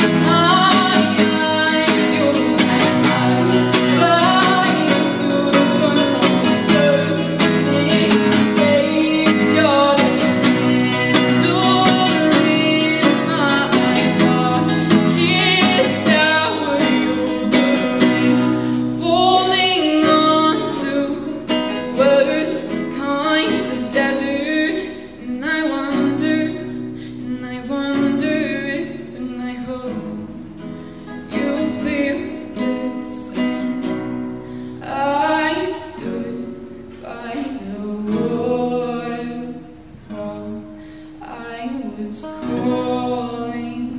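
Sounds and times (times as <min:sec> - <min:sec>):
girl singing: 0:00.0 - 0:30.6, 0:31.2 - 0:33.9, 0:34.6 - 0:43.9
strummed classical guitar: 0:00.0 - 0:43.9.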